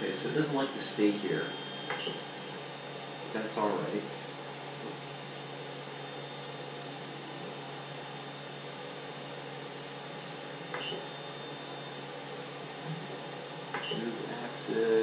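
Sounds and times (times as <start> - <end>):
faint high whine: 0.0 - 15.0
fan hum: 0.0 - 15.0.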